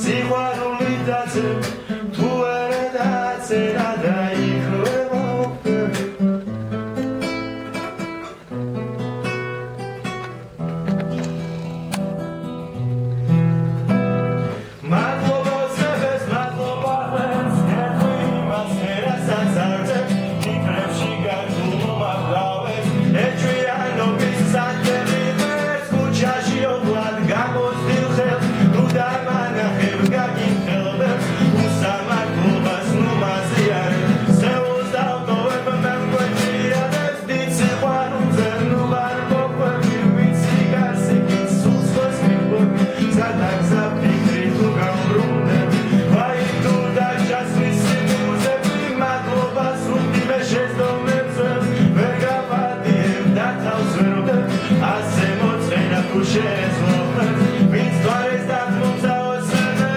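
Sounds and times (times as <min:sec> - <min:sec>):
man singing: 0:00.0 - 0:06.5, 0:14.4 - 0:59.9
classical guitar strumming: 0:00.0 - 0:59.9.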